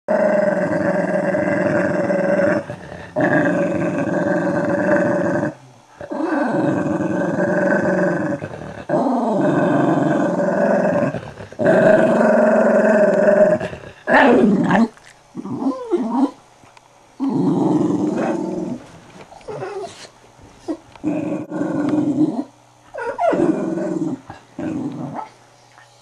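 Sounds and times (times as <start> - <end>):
dogs growling: 0.1 - 16.4, 17.2 - 20.1, 20.7 - 25.4.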